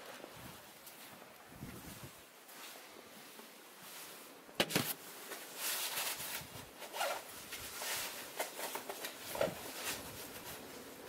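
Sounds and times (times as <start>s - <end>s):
rustling and scraping: 0.0s - 11.0s.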